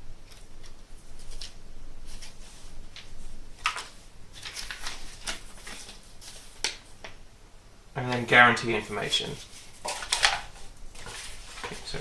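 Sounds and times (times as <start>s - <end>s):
paper crinkle: 0.2s - 7.2s, 8.0s - 12.0s
paper packaging rustling: 0.2s - 7.2s, 8.0s - 12.0s.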